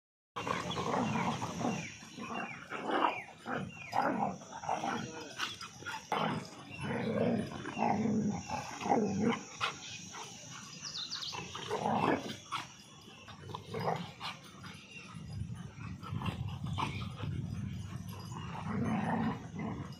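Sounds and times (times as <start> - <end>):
dogs barking: 0.4 - 19.9
dogs growling: 0.4 - 19.9.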